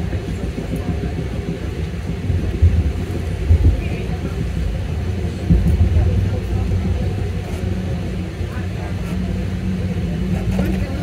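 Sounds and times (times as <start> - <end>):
train car rumbling: 0.0 - 11.0.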